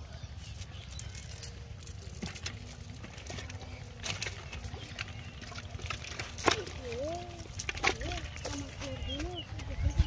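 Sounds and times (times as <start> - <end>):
fish slapping and tapping: 0.4 - 10.0.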